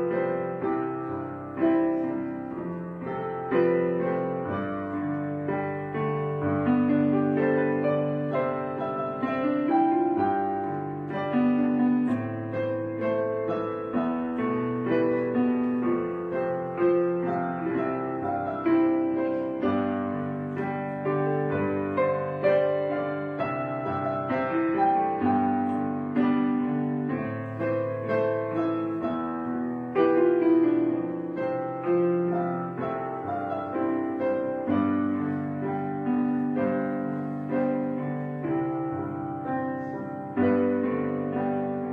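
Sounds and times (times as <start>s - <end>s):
slow piano music: 0.0s - 41.9s.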